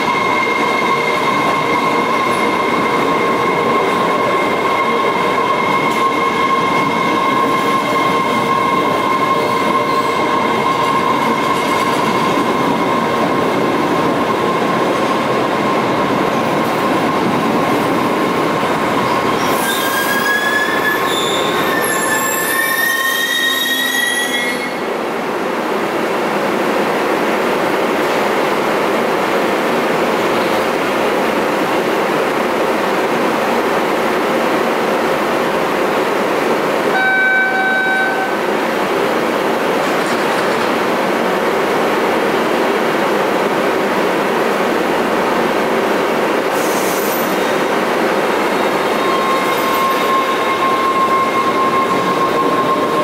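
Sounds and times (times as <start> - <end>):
subway train wheels rumbling: 0.0 - 53.0.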